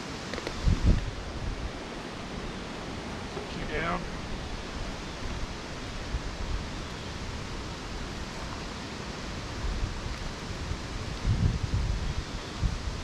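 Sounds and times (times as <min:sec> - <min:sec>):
strong wind blowing: 0:00.4 - 0:13.0
wind buffeting microphone: 0:00.4 - 0:13.0.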